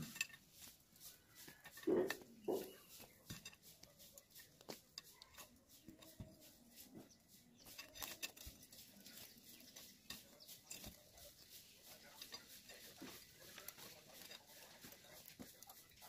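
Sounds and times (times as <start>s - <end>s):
faint clicks and taps: 0.0s - 16.0s.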